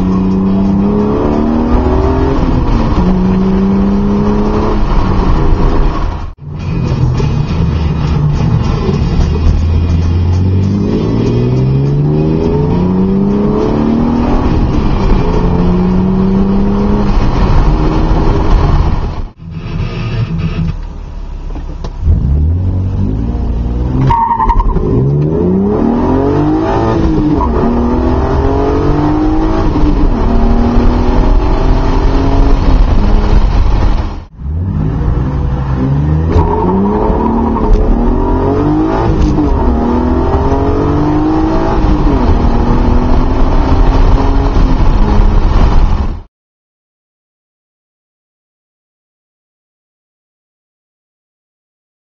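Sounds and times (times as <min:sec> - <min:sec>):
car engine accelerating through gears: 0:00.0 - 0:20.8, 0:21.8 - 0:46.2.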